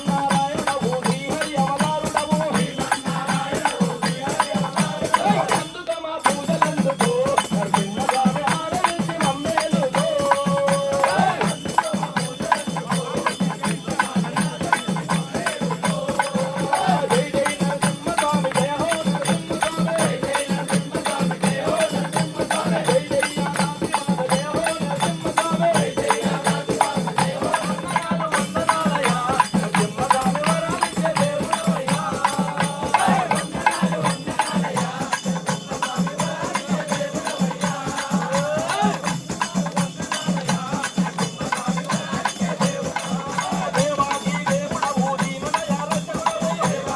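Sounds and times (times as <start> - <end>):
jingling hand percussion: 0.0 - 46.9
steady percussion beat: 0.0 - 46.9.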